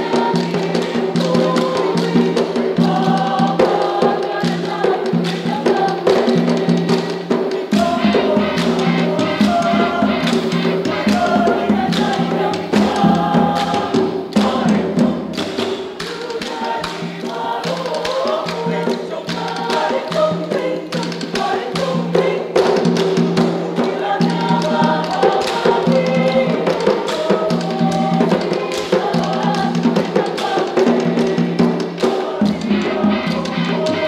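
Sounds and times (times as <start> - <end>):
bamboo percussion clacks: 0.0 - 34.0
choir singing in parts: 0.0 - 34.0.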